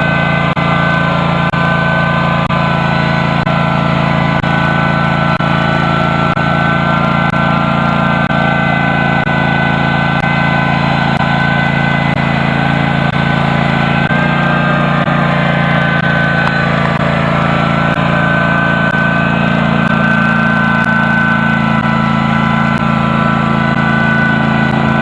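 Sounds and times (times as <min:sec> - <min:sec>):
garden tractor engine running: 0:00.0 - 0:25.0.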